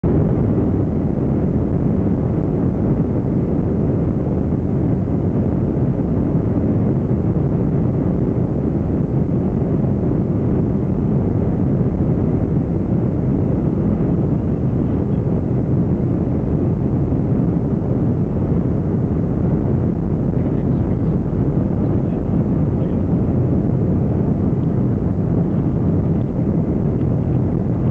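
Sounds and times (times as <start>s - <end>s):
jet engines rumbling: 0.0s - 27.9s.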